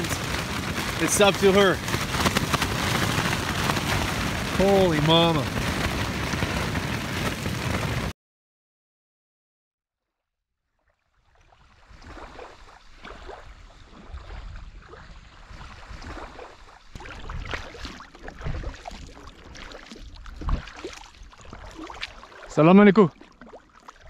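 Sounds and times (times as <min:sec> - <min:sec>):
lake water splashing and lapping: 0:00.0 - 0:08.1, 0:10.8 - 0:24.0
wind buffeting microphone: 0:00.0 - 0:08.1, 0:11.8 - 0:23.0.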